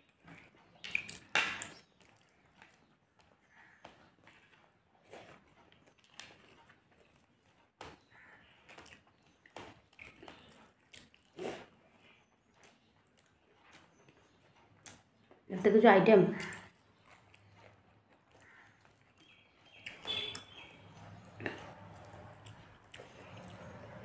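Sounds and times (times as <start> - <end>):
chewing and mouth noises: 0.1 - 8.0, 8.6 - 15.5, 16.4 - 24.0.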